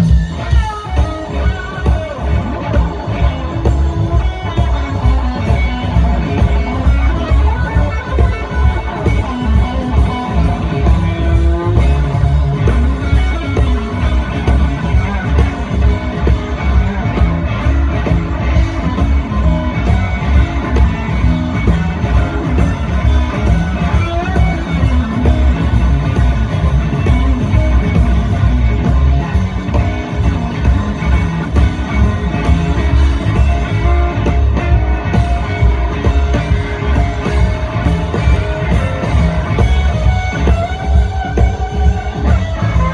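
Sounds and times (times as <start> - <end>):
bass: 0.0 - 42.9
drums: 0.0 - 42.9
electric guitar lead: 0.0 - 42.9.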